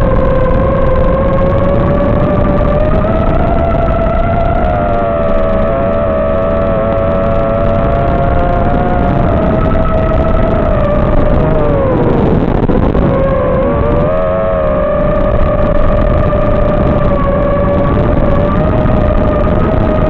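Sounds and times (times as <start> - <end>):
heavy wind rush: 0.0 - 20.0.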